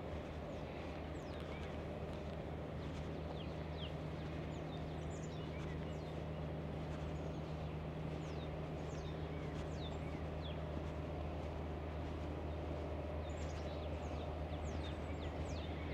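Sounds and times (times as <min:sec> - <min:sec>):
small birds chirping: 0:00.0 - 0:15.9
steady low hum: 0:00.0 - 0:15.9.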